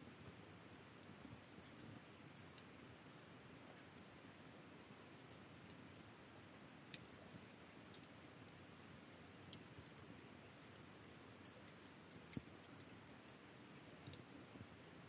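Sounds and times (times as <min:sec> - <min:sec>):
wood fire crackling and popping: 0:00.1 - 0:04.2, 0:04.8 - 0:14.8.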